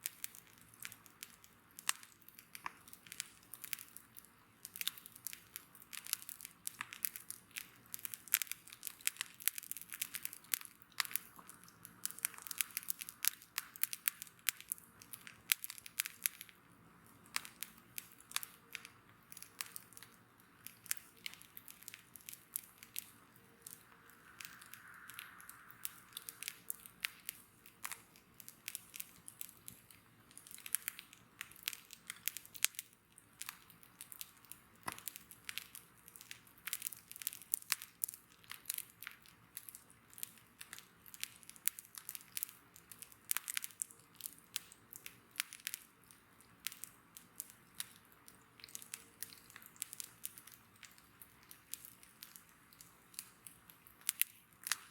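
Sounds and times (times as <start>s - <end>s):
bonfire crackling and popping: 0.0s - 54.9s
soft hiss: 0.0s - 54.9s.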